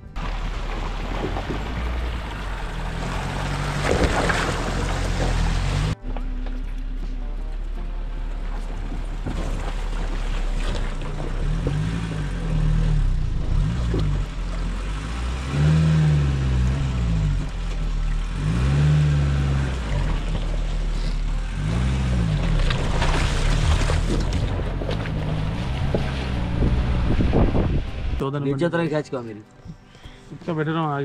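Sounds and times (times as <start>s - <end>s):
vehicle engine revving: 0.0s - 28.2s.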